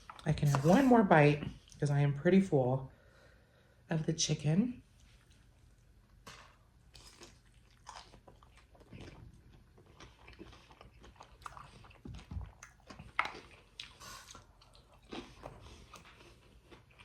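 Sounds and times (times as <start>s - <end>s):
person chewing crunchy food: 0.0s - 1.8s, 5.0s - 17.0s.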